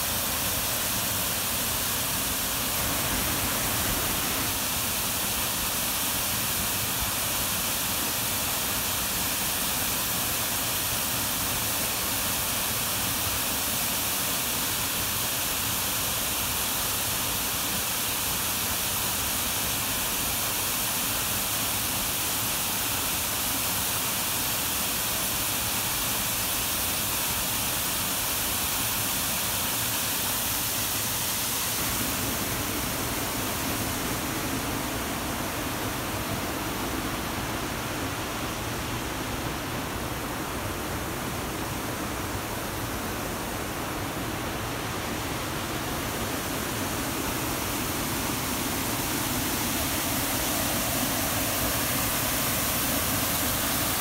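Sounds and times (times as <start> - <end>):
waterfall rushing: 0.0 - 21.2, 27.5 - 54.0.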